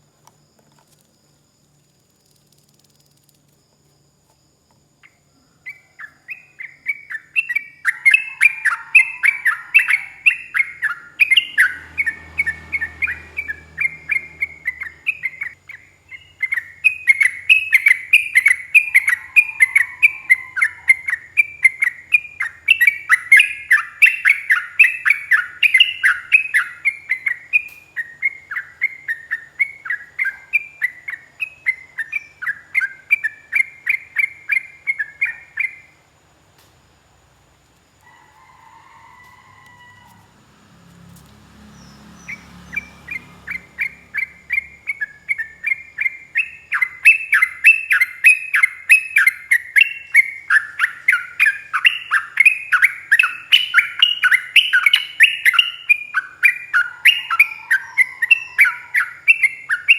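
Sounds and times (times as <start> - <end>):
bird chattering song: 5.0 - 35.9, 41.7 - 59.9.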